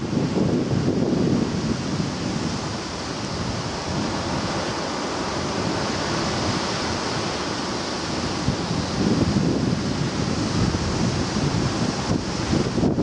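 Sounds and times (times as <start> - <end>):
sea surf washing on shore: 0.0 - 13.0
wind: 0.0 - 13.0.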